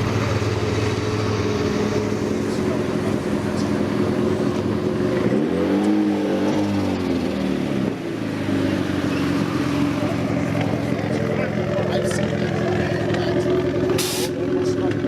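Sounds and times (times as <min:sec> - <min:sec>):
car engine revving: 0:00.0 - 0:15.0
car engines idling: 0:00.0 - 0:15.0.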